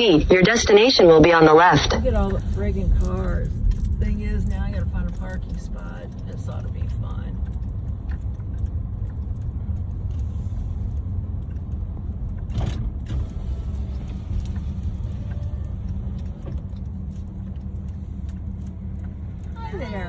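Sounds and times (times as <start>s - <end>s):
van engine and tyres rumbling: 0.0s - 20.0s.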